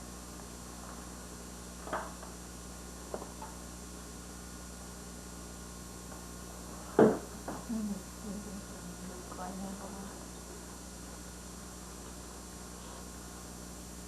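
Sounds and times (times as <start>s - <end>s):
low hum and hiss: 0.0s - 14.0s.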